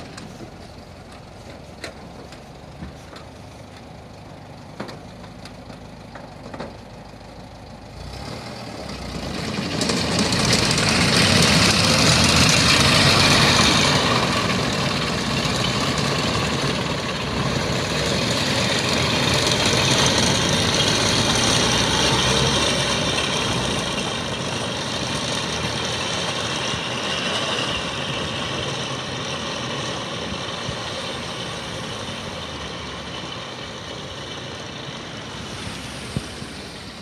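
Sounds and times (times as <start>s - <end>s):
vehicle engine driving away: 0.0s - 37.0s.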